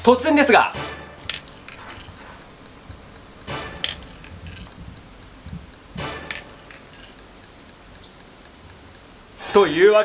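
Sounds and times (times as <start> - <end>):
clock ticking: 1.2 - 10.0.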